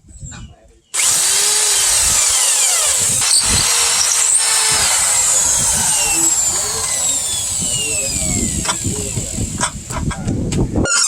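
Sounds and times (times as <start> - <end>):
electric grinder grinding steel: 1.0 - 10.2.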